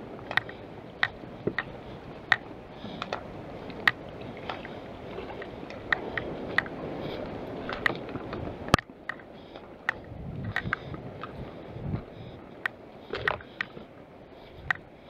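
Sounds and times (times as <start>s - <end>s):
water washing: 0.0s - 13.9s.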